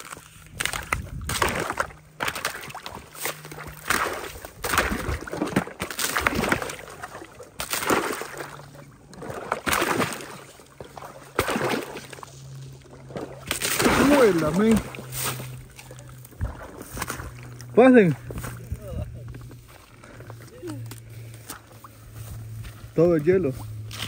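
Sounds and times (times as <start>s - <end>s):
rubber boots splashing through mud: 0.0s - 24.0s.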